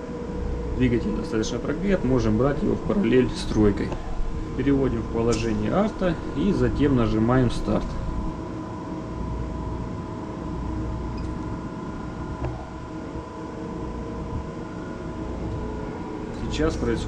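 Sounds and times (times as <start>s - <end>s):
engine room machinery drone: 0.0s - 17.0s
steady machine whine: 0.0s - 17.0s.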